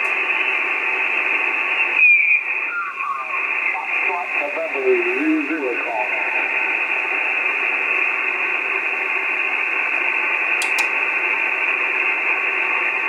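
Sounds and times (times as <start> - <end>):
radio receiver static: 0.0 - 13.0.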